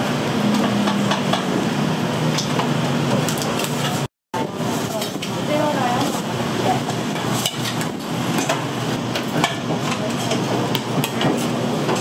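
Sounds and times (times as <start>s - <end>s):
kitchen background din: 2.3s - 12.0s.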